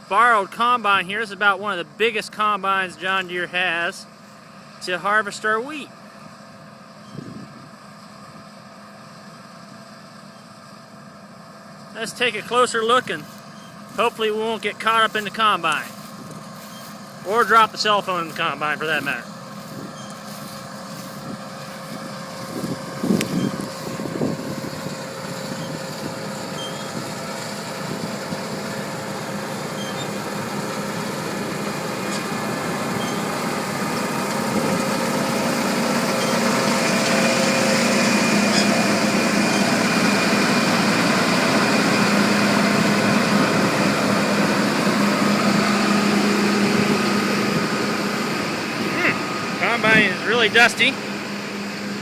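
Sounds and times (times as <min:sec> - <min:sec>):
combine harvester engine drone: 0:00.0 - 0:52.0.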